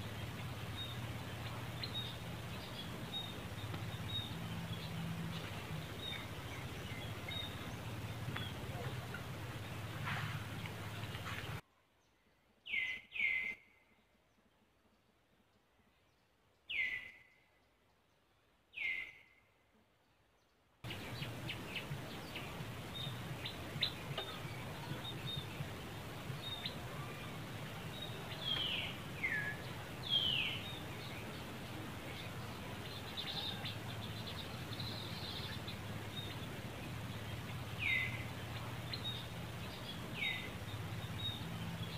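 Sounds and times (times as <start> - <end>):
outdoor background hiss: 0.0 - 41.9.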